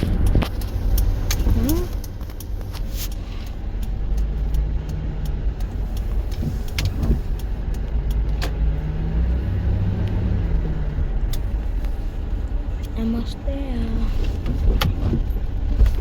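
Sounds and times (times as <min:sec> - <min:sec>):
car engine and road rumble: 0:00.0 - 0:16.0
light ticks: 0:00.0 - 0:16.0.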